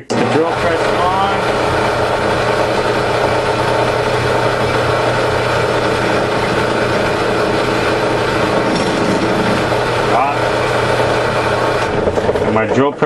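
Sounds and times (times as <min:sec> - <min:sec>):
drill press motor humming: 0:00.0 - 0:13.0.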